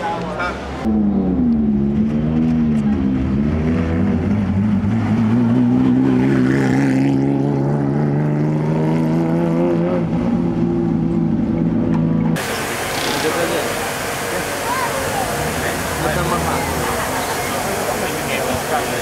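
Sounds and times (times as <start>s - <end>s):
car engine revving: 0.6s - 19.0s.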